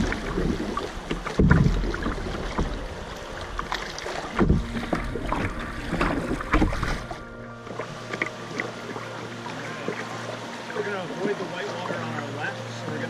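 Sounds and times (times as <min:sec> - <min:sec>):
paddle strokes in water: 0:00.0 - 0:13.0
water rushing past hull: 0:00.0 - 0:13.0.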